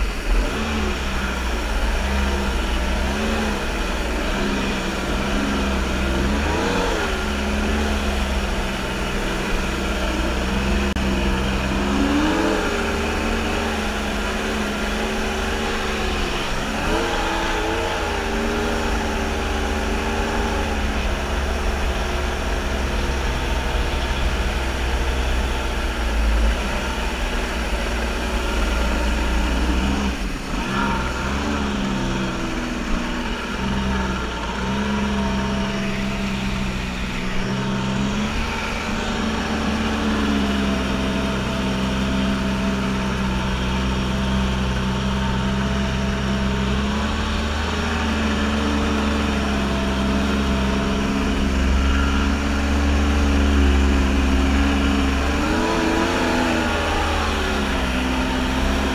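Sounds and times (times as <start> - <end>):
jet ski engine running: 0.0 - 58.9.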